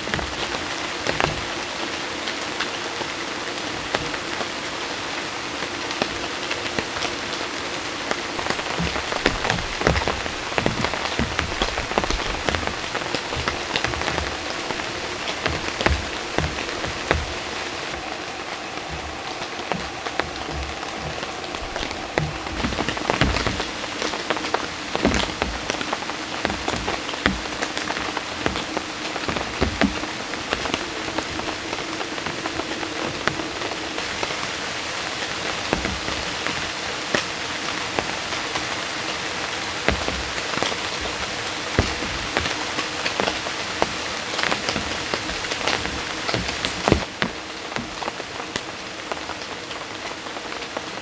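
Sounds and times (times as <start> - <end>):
heavy raindrops striking: 0.0 - 51.0
steady rain falling: 0.0 - 51.0.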